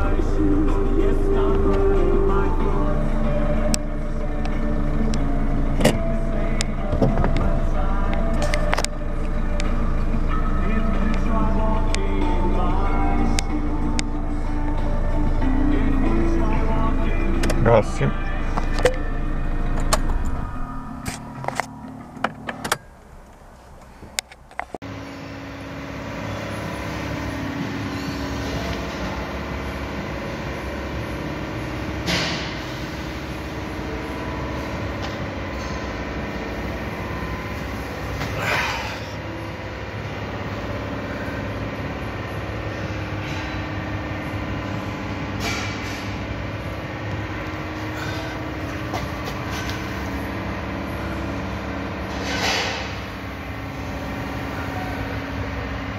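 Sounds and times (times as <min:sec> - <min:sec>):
vehicle engine humming: 0:00.0 - 0:55.9.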